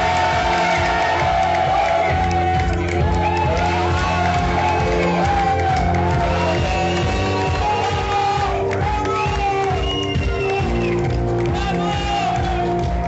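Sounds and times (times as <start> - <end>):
crowd voices and cheering: 0.0 - 13.0
song with sung melody and bass: 0.0 - 13.0.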